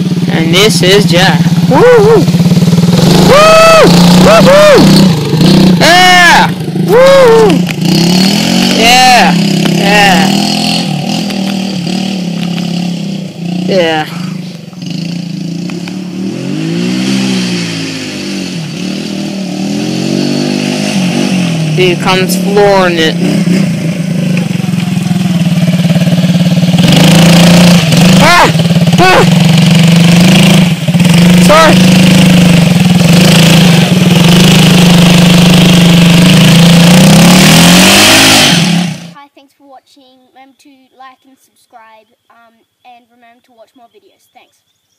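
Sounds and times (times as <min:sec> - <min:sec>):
small engine revving: 0:00.0 - 0:39.2.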